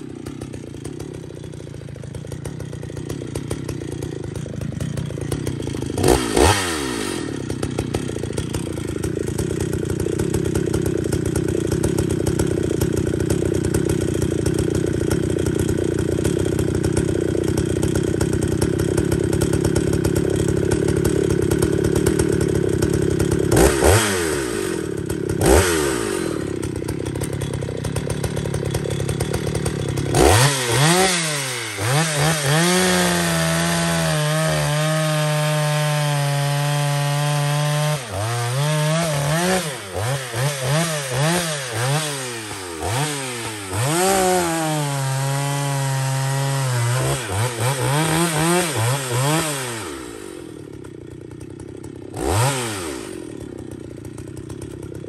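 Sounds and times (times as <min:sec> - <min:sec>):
chainsaw idling and revving: 0:00.0 - 0:55.0.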